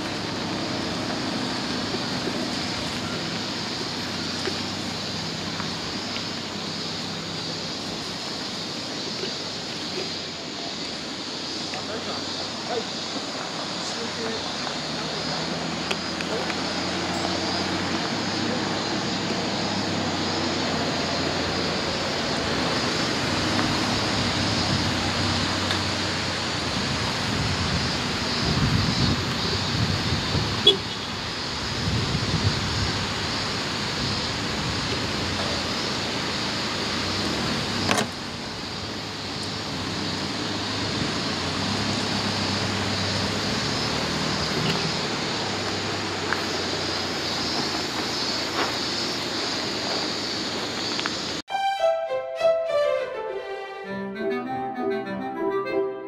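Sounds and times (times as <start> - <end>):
tyres on gravel: 0.0 - 51.4
van engine hum: 0.0 - 51.5.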